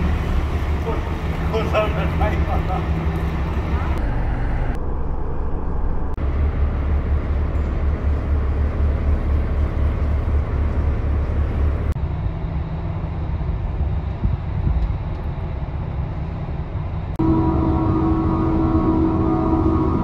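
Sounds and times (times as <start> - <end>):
low mechanical hum of machinery: 0.0 - 5.0, 6.2 - 20.0.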